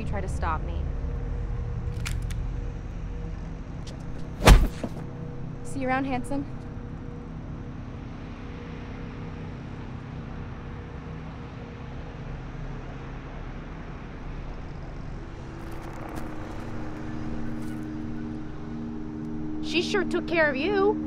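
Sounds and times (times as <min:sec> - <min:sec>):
low hum: 0:00.0 - 0:21.0
low rumble and hiss: 0:00.0 - 0:21.0.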